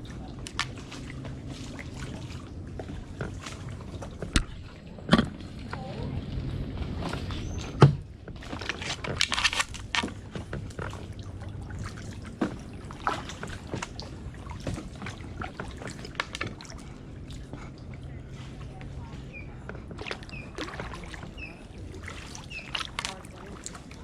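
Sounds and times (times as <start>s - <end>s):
paddle blades splashing water: 0.0s - 24.0s.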